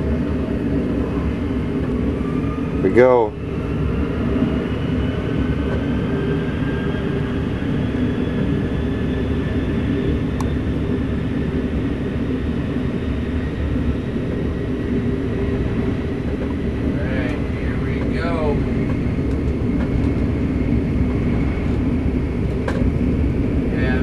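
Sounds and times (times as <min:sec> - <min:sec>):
jet engines roaring: 0:00.0 - 0:24.0
turbine whine: 0:00.0 - 0:24.0.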